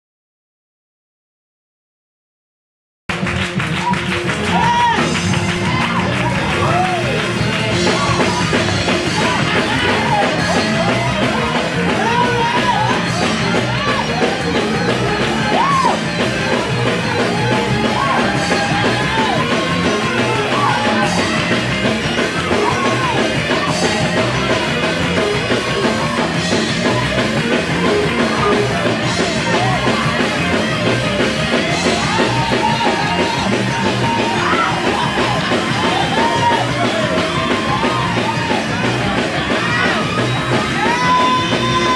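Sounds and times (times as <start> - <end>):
live band playing with drums: 3.1 - 41.9
voices yelling and singing: 3.6 - 41.9.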